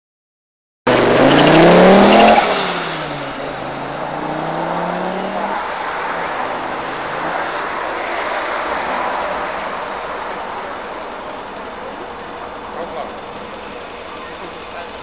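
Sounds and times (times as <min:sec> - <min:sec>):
rally car engine revving: 0:00.9 - 0:15.0.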